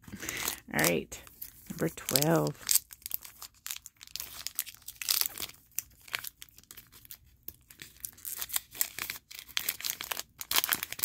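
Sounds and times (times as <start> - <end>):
foil wrapper crinkling and tearing: 0.1 - 11.0.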